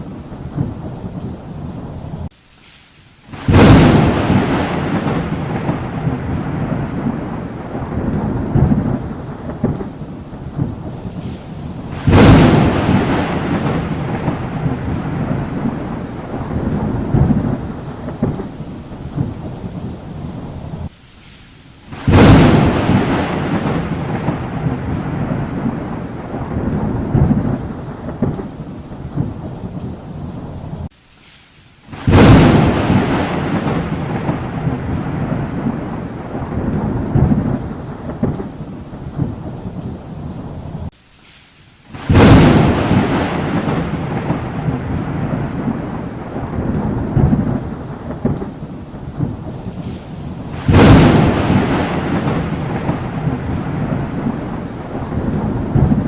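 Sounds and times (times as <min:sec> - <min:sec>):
thunderclaps with long rumble: 0:00.0 - 0:02.3, 0:03.3 - 0:20.9, 0:21.9 - 0:30.9, 0:31.9 - 0:40.9, 0:42.0 - 0:56.0
steady rain: 0:00.0 - 0:56.0.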